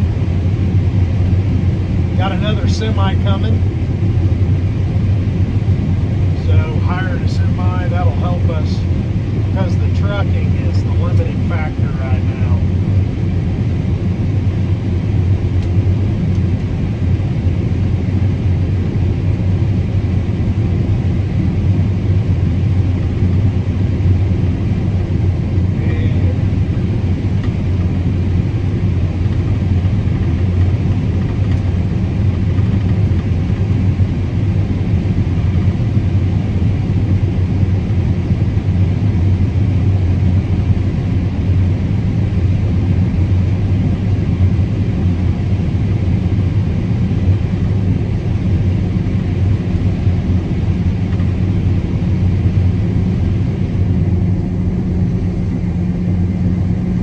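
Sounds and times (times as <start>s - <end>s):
combine harvester rumble: 0.0s - 57.0s.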